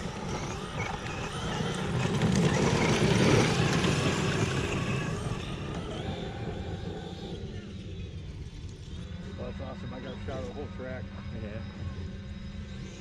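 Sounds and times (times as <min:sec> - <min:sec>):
electric rc car motor whine: 0:00.0 - 0:13.0.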